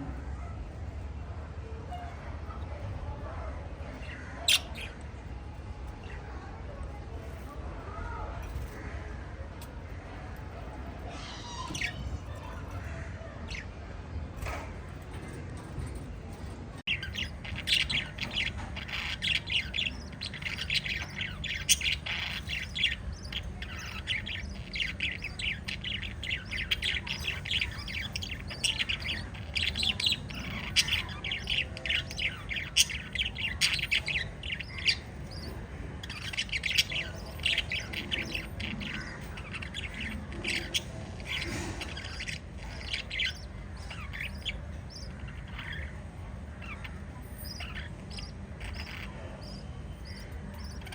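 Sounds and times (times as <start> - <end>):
budgerigars chirping and chattering: 0.0 - 50.9
low background hum: 0.0 - 50.9.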